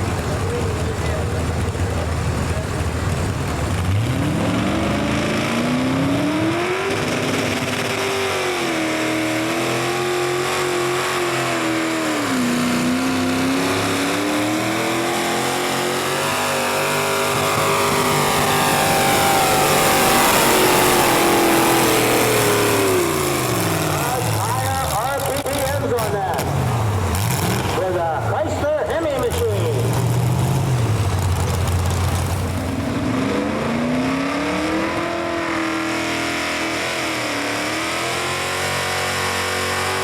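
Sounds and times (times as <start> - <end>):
truck engine revving under load: 0.0 - 40.0.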